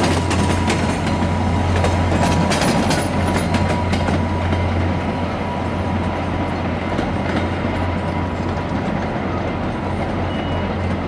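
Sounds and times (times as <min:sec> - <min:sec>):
wheels clicking over rail joints: 0:00.0 - 0:05.0, 0:06.0 - 0:11.0
train rumbling: 0:00.0 - 0:11.0.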